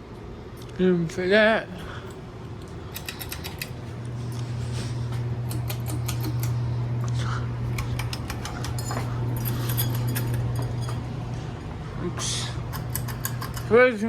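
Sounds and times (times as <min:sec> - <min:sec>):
ceiling fan motor humming: 0:00.0 - 0:14.0.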